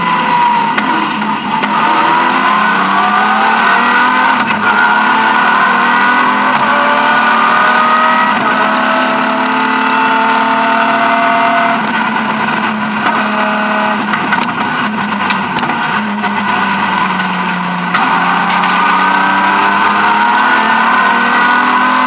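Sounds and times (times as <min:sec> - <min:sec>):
car engine at speed: 0:00.0 - 0:22.0.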